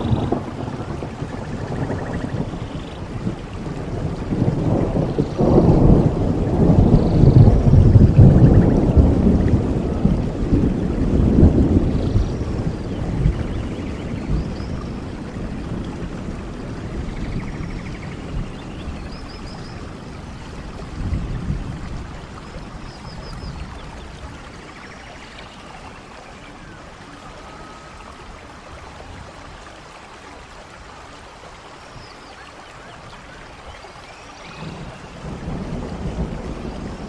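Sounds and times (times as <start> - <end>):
thunder rumble: 0.0 - 29.6, 33.0 - 37.0
steady rainfall: 0.0 - 37.0.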